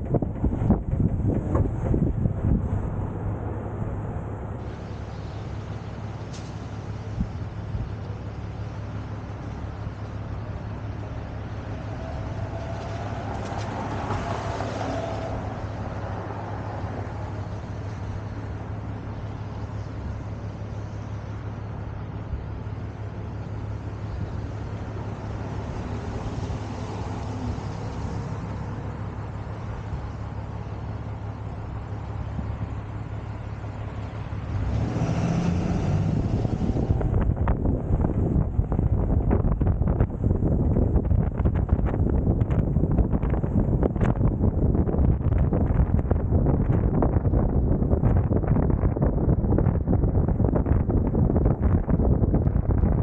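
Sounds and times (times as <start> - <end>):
road noise: 0.0 - 53.0
truck engine running: 0.0 - 53.0.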